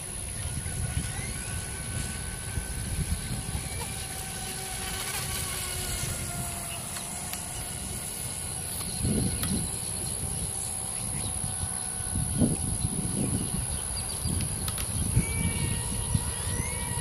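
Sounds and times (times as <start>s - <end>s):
electric motor whining: 0.0s - 17.0s
wind rumble on microphone: 0.0s - 17.0s.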